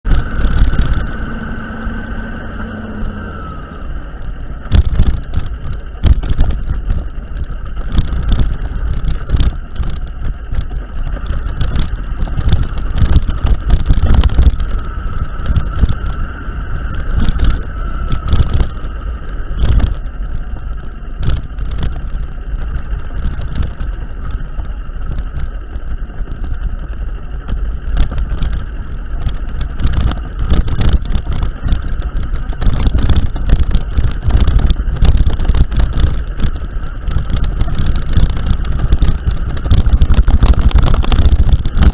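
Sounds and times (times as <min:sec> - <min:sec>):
vehicle low rumble: 0:00.0 - 0:41.9.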